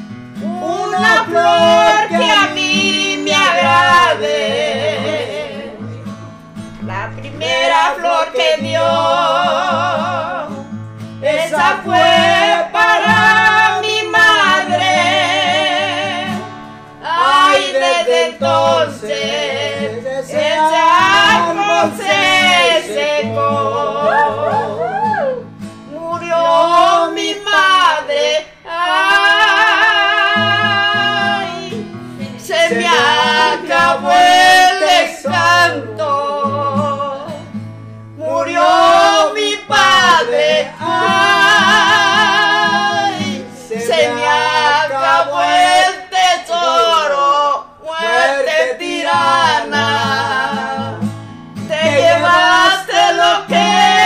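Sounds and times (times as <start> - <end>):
acoustic guitar: 0.0 - 54.0
woman and man singing: 0.4 - 54.0.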